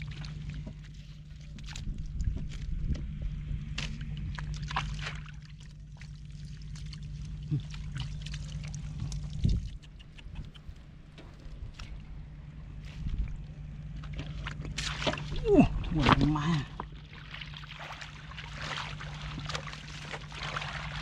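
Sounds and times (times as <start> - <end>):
steady low hum: 0.0 - 21.0
water splashing and sloshing: 0.0 - 21.0.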